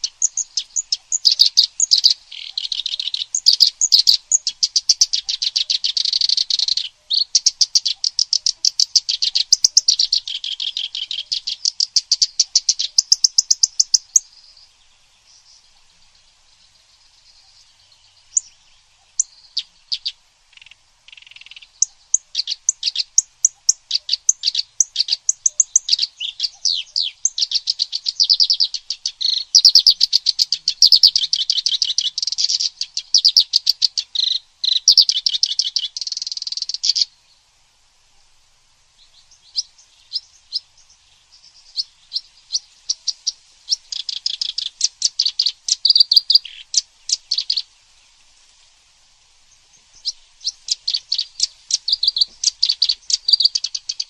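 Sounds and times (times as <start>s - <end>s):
songbird chattering trills: 0.0s - 37.4s, 39.0s - 48.3s, 49.5s - 54.0s.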